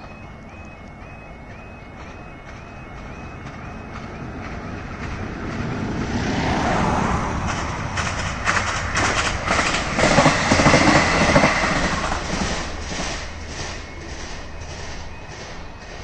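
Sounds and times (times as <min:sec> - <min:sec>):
train wheels clicking over rail joints: 0:00.0 - 0:06.2, 0:07.3 - 0:16.0
diesel train engine passing: 0:00.0 - 0:16.0.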